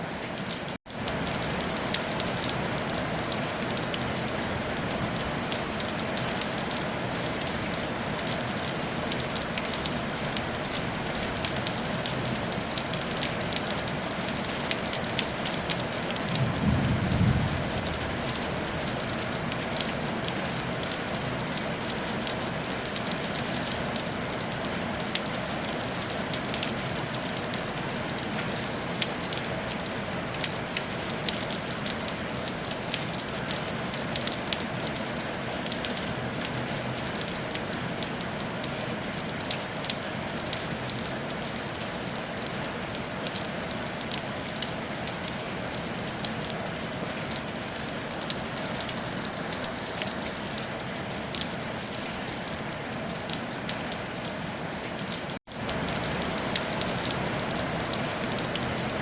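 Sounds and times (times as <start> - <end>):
rain on a tile roof: 0.0 - 59.0.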